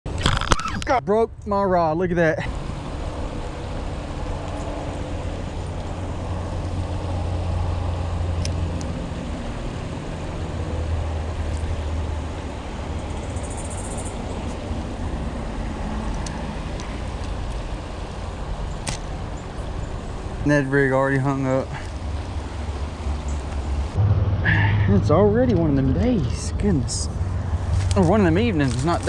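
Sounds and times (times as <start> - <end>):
low engine rumble: 1.3 - 29.0.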